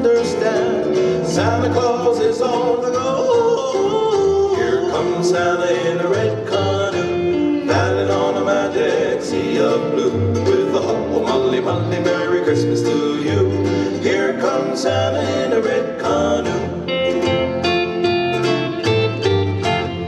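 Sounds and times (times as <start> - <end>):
upbeat christmas song: 0.0 - 20.0.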